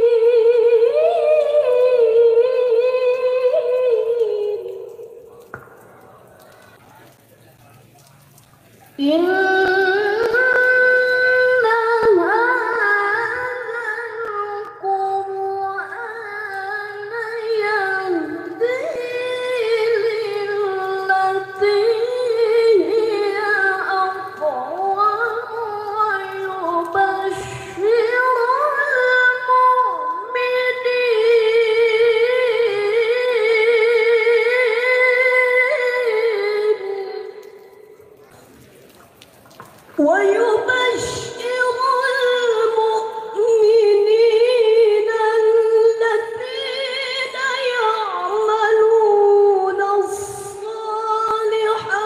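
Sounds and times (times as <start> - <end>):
person reciting melodically: 0.0 - 38.3, 39.7 - 52.0.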